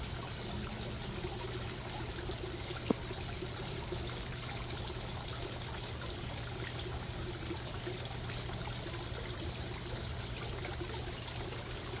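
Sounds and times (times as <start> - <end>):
small waterfall spilling into pond: 0.0 - 12.0.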